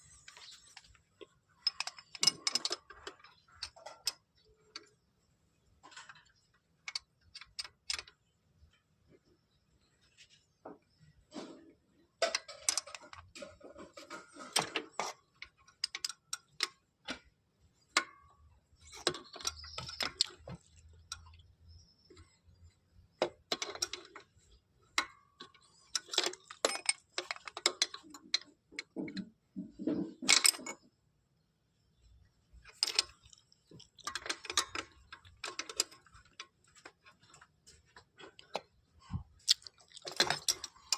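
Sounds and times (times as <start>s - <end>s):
metal tools clicking and clanking: 0.0s - 5.1s, 5.8s - 8.8s, 11.4s - 31.0s, 32.5s - 40.9s.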